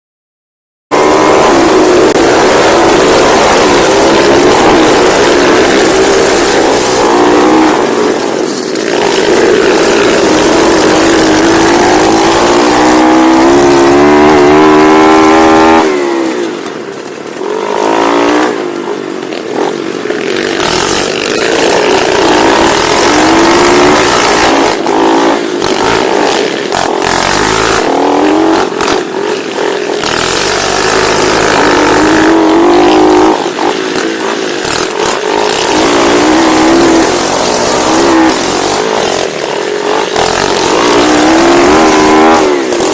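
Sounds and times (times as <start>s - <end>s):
pit bike engine revving: 0.9s - 42.9s.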